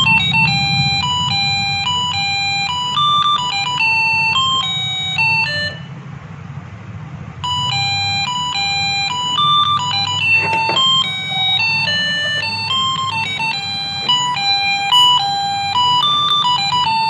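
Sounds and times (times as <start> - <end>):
electronic doorbell tune beeping: 0.0 - 5.9, 7.4 - 17.0.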